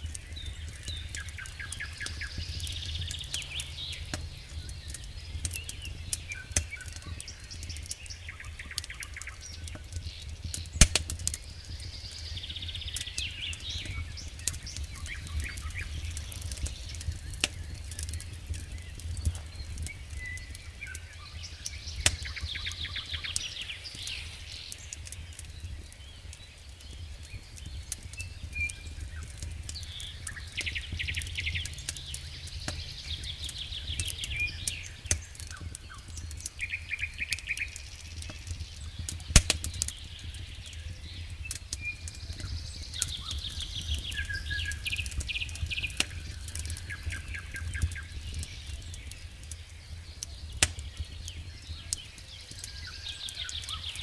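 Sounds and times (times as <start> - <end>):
birds chirping trills: 0.0 - 54.0
campfire crackling and popping: 0.0 - 54.0.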